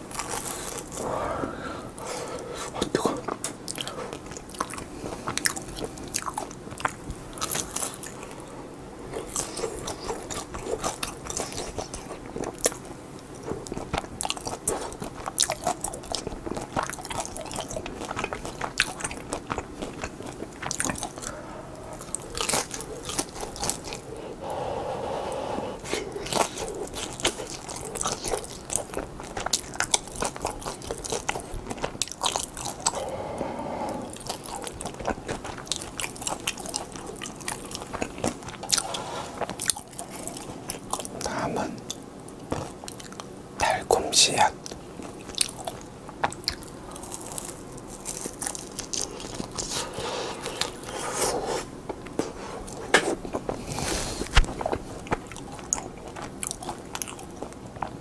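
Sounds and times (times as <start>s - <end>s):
biting and chewing food: 0.0s - 1.2s, 1.9s - 24.6s, 25.8s - 58.0s.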